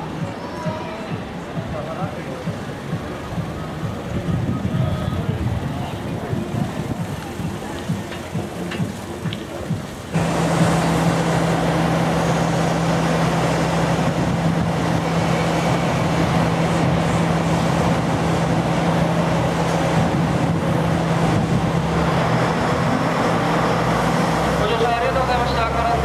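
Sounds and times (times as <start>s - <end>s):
diesel railcar engine idling: 1.3s - 26.0s.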